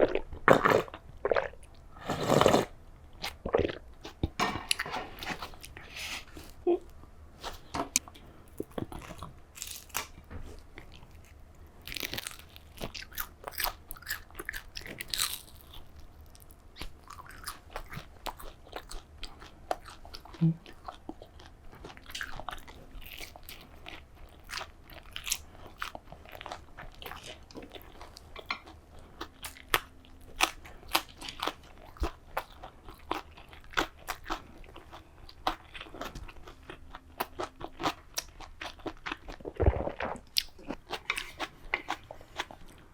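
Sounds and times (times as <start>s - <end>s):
crunching and chewing: 0.0s - 6.5s, 7.4s - 42.9s.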